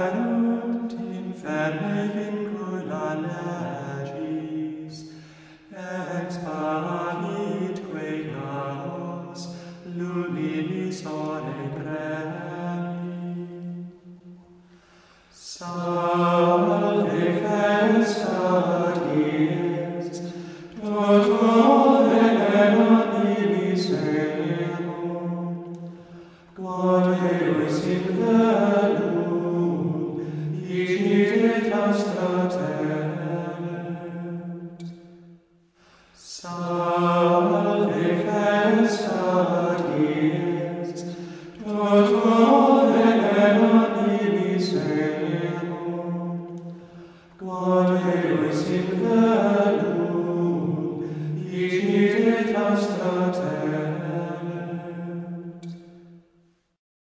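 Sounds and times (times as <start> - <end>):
chant sung: 0.0 - 14.5, 15.4 - 35.4, 36.2 - 56.2.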